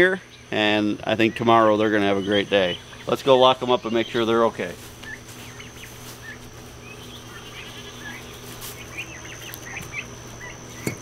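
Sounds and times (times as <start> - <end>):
high insect drone: 0.0 - 11.0
low hum: 0.0 - 11.0
young turkeys peeping: 0.0 - 11.0.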